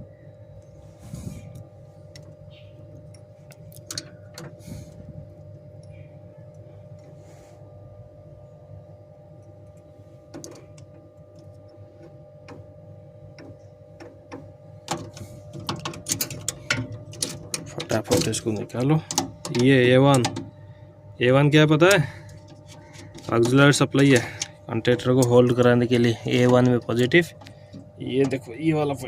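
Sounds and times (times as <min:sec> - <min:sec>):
steady electrical hum: 0:00.0 - 0:29.0.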